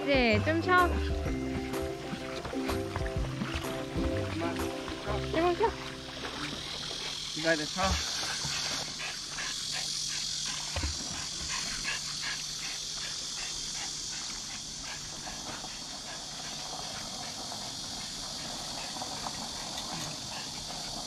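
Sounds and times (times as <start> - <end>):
dog panting: 0.6 - 21.0.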